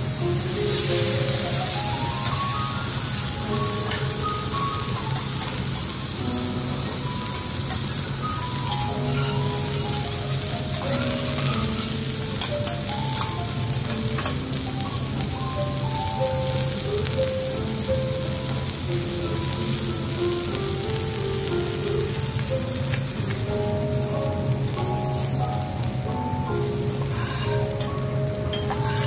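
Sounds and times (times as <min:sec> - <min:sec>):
steaks sizzling on a griddle: 0:00.0 - 0:29.0.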